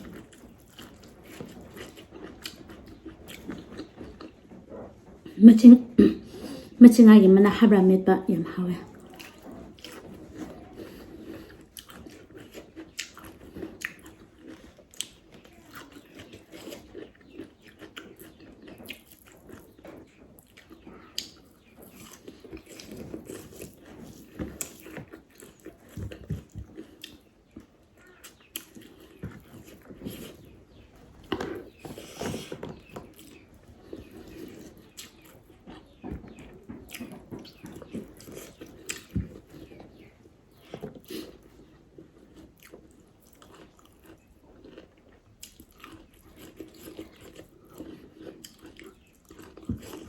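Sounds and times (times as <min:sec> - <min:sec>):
food crunching: 0:00.0 - 0:05.6, 0:08.5 - 0:50.0
person chewing food: 0:00.0 - 0:06.8, 0:08.6 - 0:50.0.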